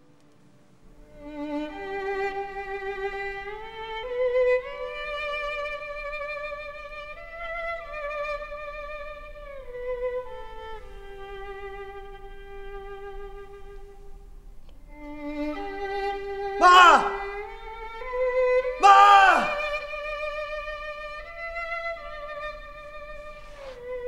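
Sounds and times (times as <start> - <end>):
solo violin slow melody: 0.9 - 16.6, 17.2 - 18.8, 19.6 - 24.0.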